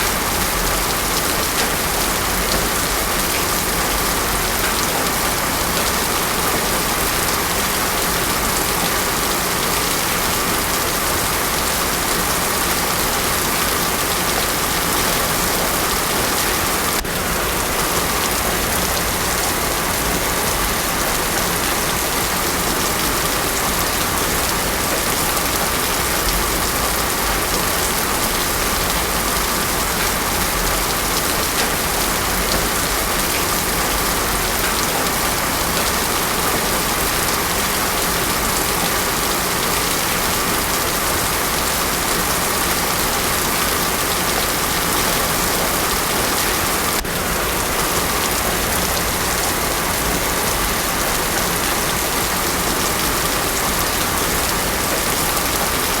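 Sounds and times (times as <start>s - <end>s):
heavy rain on a road: 0.0s - 56.0s.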